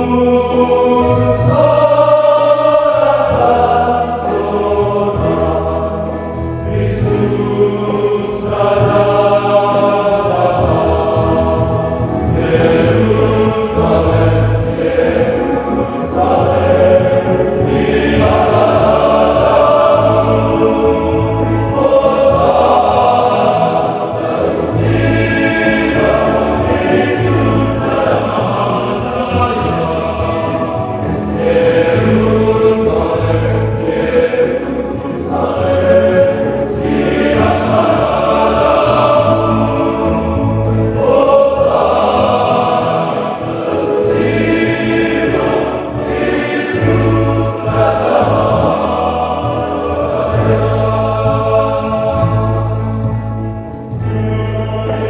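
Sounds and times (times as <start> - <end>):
male choir singing a hymn: 0.0 - 55.0.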